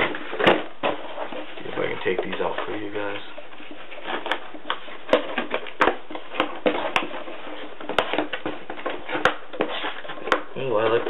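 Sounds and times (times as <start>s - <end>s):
cardboard rustling and scraping: 0.0s - 11.0s.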